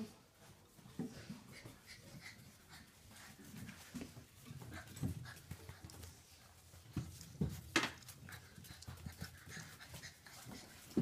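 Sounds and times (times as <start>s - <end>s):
puppies panting and snuffling: 0.0s - 11.0s.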